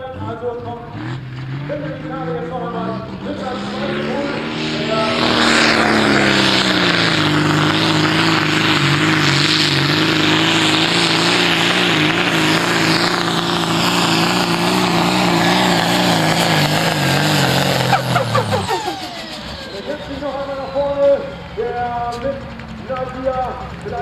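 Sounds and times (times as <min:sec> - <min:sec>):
tractor diesel engine drone: 0:00.0 - 0:24.0.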